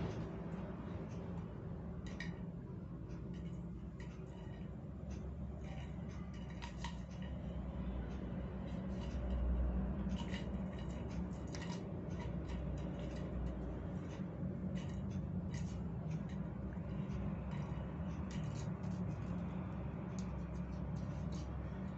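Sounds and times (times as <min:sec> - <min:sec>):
low background hum: 0:00.0 - 0:21.9
straw clicking on tile floor: 0:00.0 - 0:21.9.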